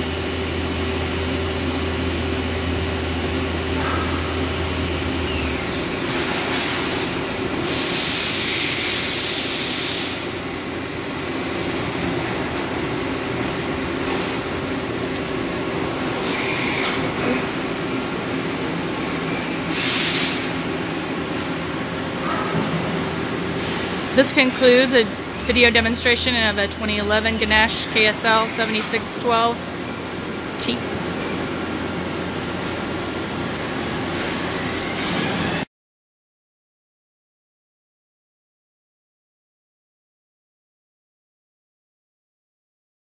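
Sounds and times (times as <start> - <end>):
steady machine hum: 0.0 - 35.7.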